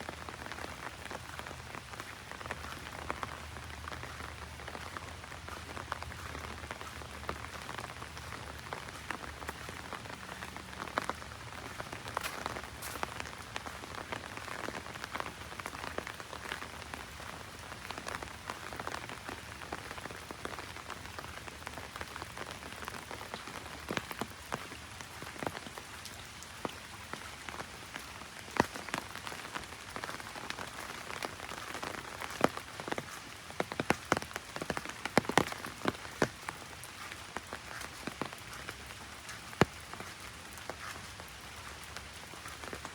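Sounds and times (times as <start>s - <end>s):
heavy rain on an umbrella: 0.0s - 42.9s.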